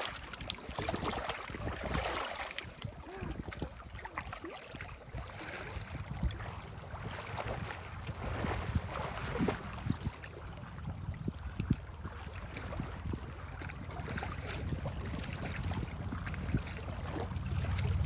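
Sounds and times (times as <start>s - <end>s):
water splashing and lapping: 0.0s - 18.0s
wind rumble on microphone: 0.0s - 18.0s.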